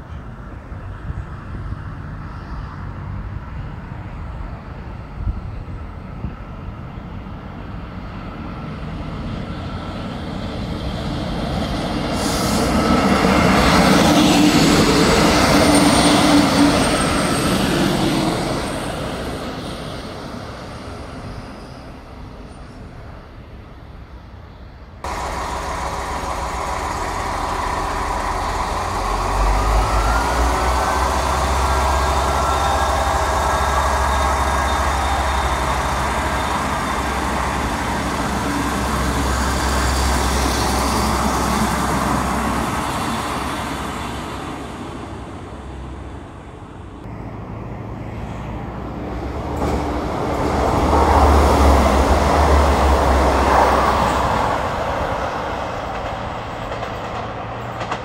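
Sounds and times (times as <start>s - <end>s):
railcar engine whine: 0.0s - 58.0s
railcar rumbling: 0.0s - 58.0s.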